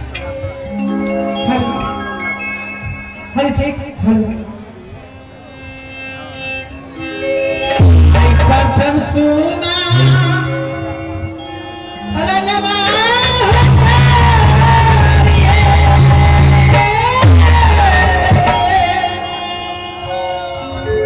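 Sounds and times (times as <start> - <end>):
live keyboard and drums music: 0.0 - 21.0
person singing wavering notes: 0.6 - 21.0.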